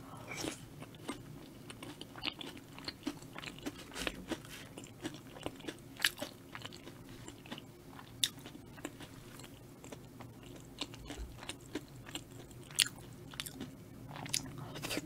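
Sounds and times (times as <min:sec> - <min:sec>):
chewing crunchy fried food: 0:00.3 - 0:15.0.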